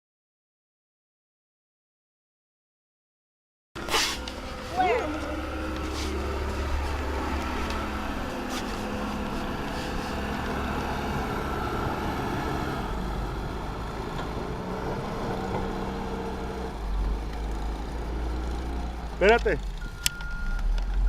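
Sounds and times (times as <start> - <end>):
vehicle engine running: 3.8 - 21.0.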